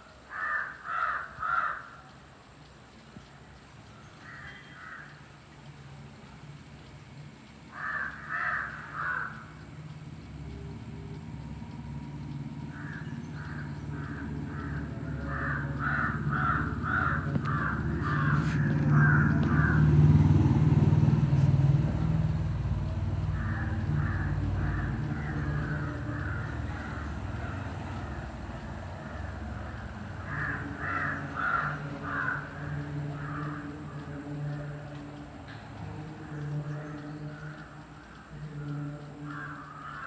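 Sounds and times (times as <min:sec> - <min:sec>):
crows cawing: 0:00.2 - 0:02.3, 0:03.9 - 0:05.4, 0:07.7 - 0:20.8, 0:21.4 - 0:34.8, 0:36.2 - 0:40.0
low engine hum: 0:02.3 - 0:40.0.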